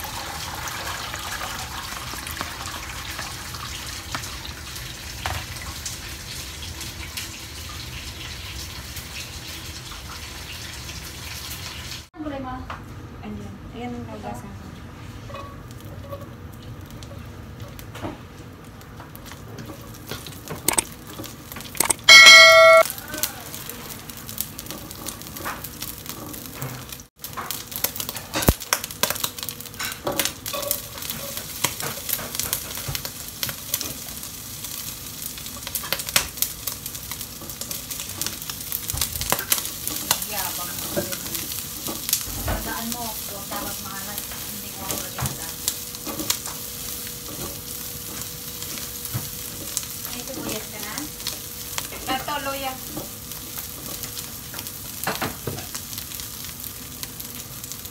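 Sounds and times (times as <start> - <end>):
oil sizzling in a wok: 0.0 - 12.6, 13.9 - 57.9.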